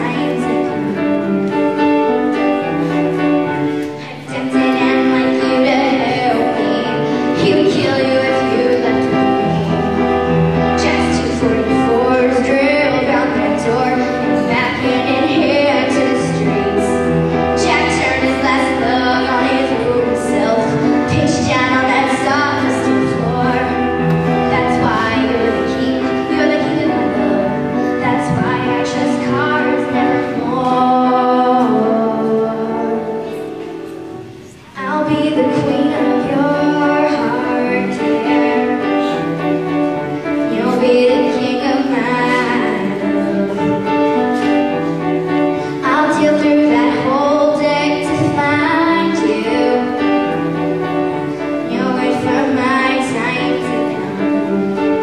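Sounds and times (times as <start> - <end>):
girl singing: 0.0 - 1.7, 2.6 - 55.0
piano: 0.0 - 55.0.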